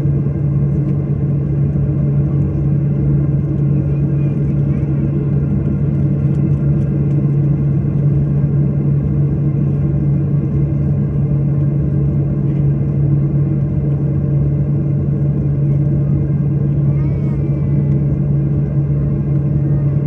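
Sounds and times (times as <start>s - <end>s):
jet engines droning in cabin: 0.0s - 20.0s.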